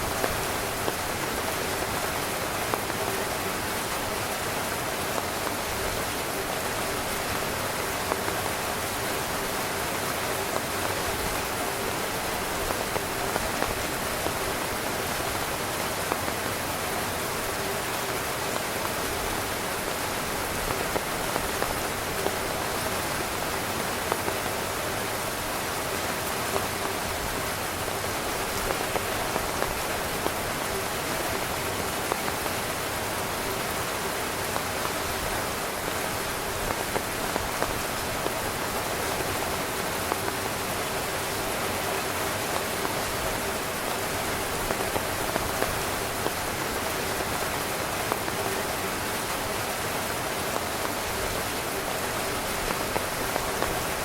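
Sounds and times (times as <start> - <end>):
rain falling on a tent: 0.0 - 54.0.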